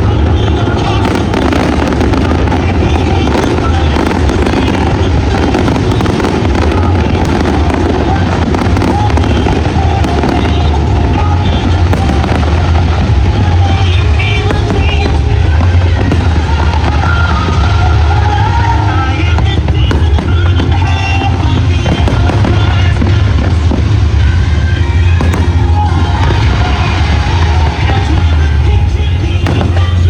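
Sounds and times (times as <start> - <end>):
fireworks exploding: 0.0 - 30.0
low rumble: 0.0 - 30.0.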